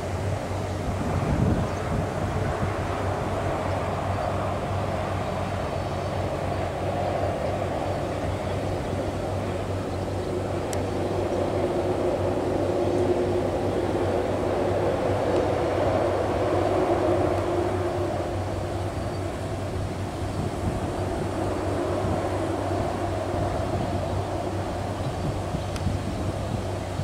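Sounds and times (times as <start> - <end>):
train rumbling over bridge: 0.0 - 27.0.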